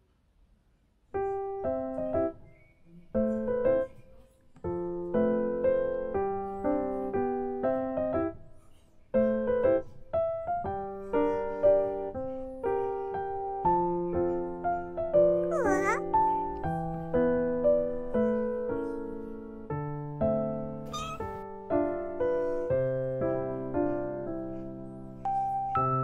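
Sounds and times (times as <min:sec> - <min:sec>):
light piano melody: 0:01.1 - 0:26.0.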